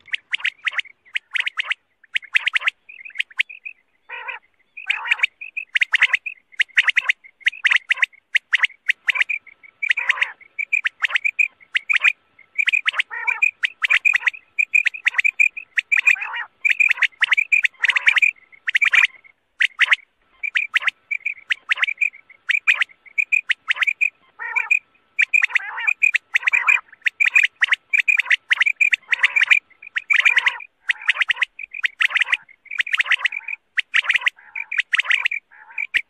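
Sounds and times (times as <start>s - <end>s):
quail call chirping: 0.0s - 36.0s.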